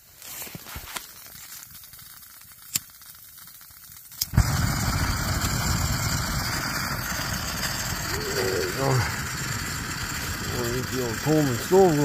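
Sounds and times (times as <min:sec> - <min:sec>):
camp stove lighting and hissing: 0:00.0 - 0:12.0.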